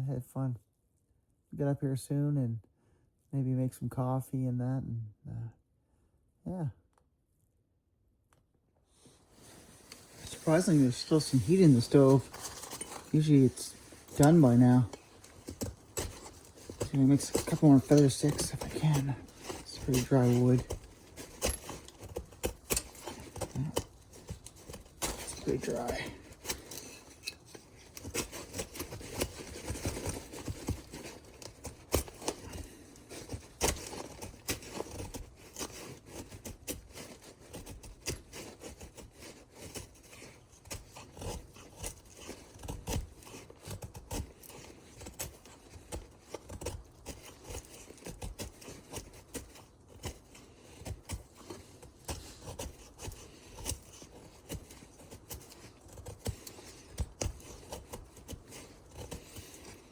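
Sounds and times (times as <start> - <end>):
knife scraping wood: 9.5 - 59.9.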